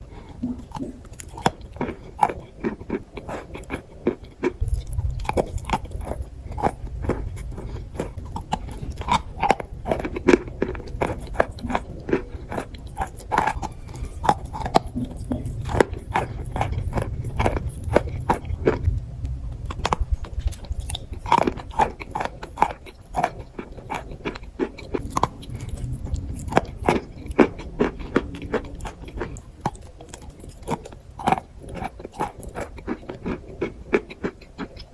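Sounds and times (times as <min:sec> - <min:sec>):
chalk being crunched and chewed: 0:00.5 - 0:34.9
low rumble: 0:04.6 - 0:33.2.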